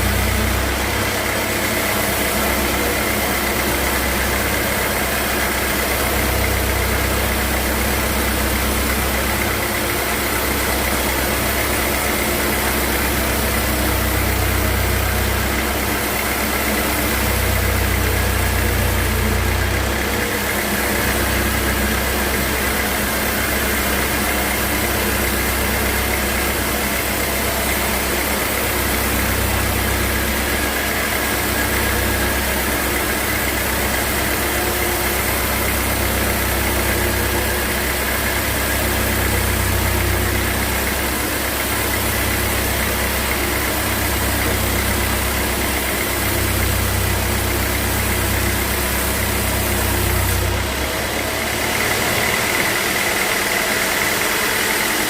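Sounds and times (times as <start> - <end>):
sawmill machinery rumble: 0.0 - 55.0.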